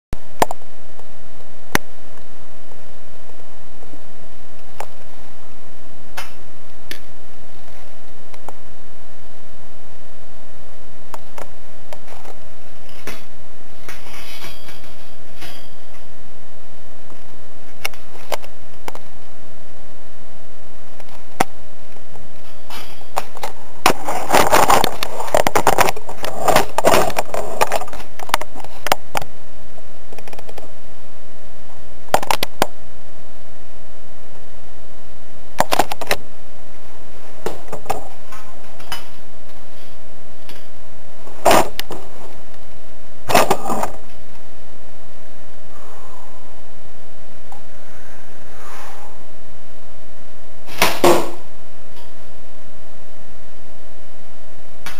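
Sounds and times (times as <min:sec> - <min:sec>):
faint steady hum: 0:00.1 - 0:54.9.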